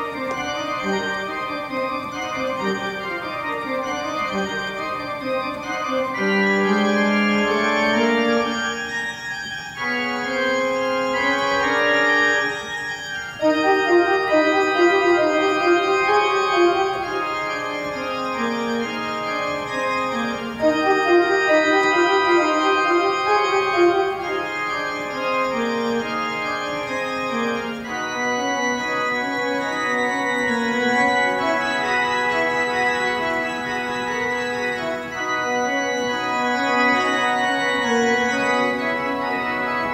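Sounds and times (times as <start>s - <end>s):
church organ music: 0.0s - 39.9s.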